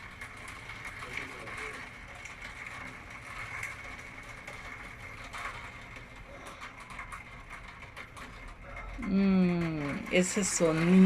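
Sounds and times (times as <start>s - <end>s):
rain drops pattering: 0.0s - 11.0s.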